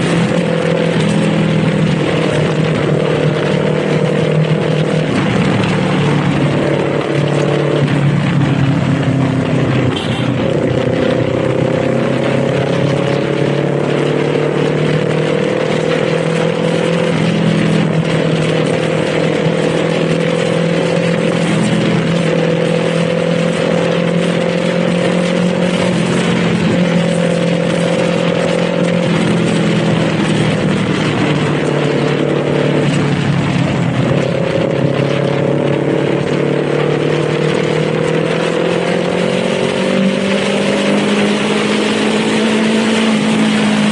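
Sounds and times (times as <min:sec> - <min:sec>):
motorcycle engine and exhaust: 0:00.0 - 0:43.9
riding wind noise: 0:00.0 - 0:43.9.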